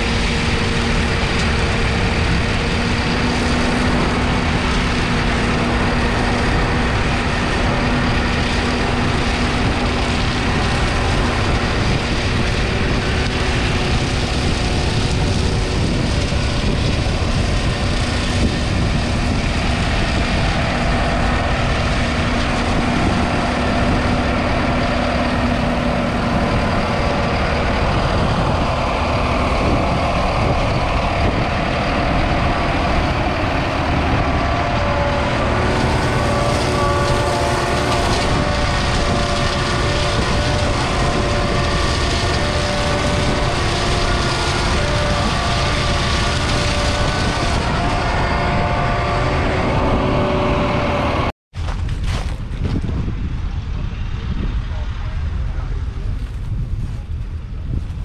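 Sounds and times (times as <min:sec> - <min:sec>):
steady whine: 0:00.0 - 0:58.0
tractor diesel engine running: 0:00.0 - 0:58.0.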